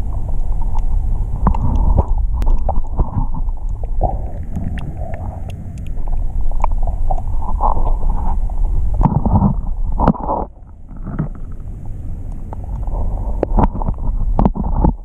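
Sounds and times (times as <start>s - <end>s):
surge of water: 0.0s - 15.0s
underwater water rumble: 0.0s - 15.0s.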